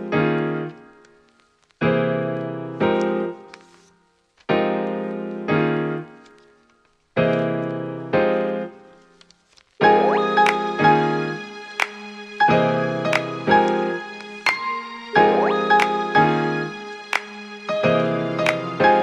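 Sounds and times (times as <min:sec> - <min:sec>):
slow piano chords: 0:00.0 - 0:03.8, 0:04.4 - 0:19.0.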